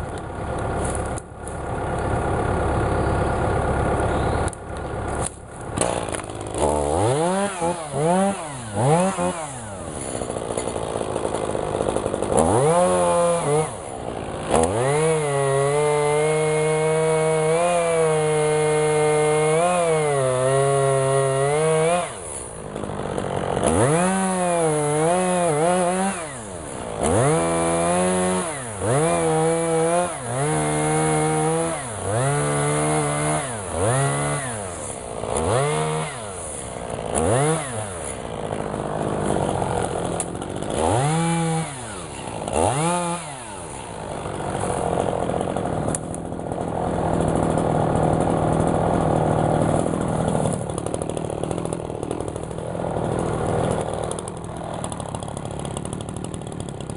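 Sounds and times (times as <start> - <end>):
chainsaw revving: 0.0 - 56.9.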